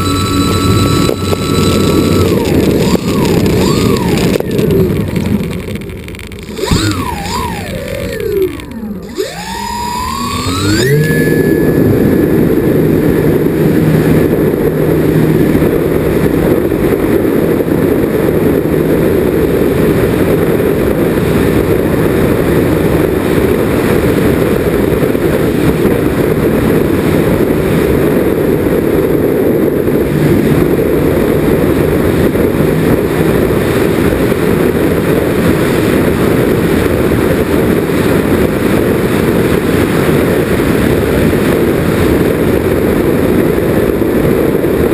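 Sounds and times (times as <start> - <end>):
heavy wind rush: 0.0 - 44.9
model plane motors and propellers: 0.0 - 44.9.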